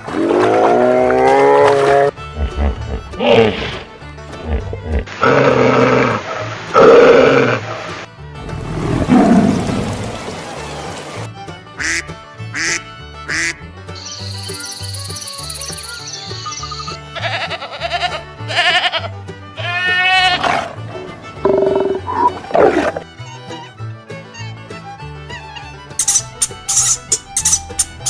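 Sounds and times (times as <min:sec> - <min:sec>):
background music with bass line: 0:00.8 - 0:28.0.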